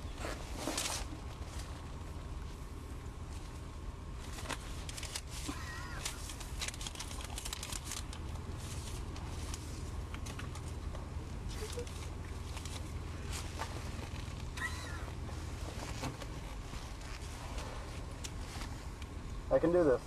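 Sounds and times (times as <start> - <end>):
costume rustling and crinkling: 0.0 - 2.6, 3.2 - 19.2
car hum: 0.0 - 20.0.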